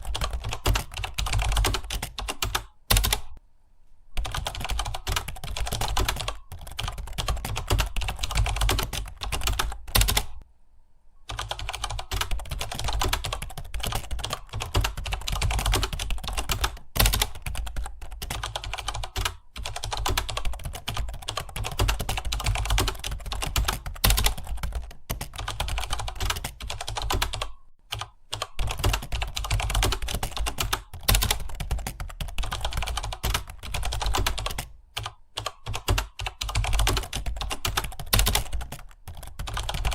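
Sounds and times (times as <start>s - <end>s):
fast typing on keyboard: 0.0s - 3.4s, 4.2s - 10.4s, 11.3s - 39.9s.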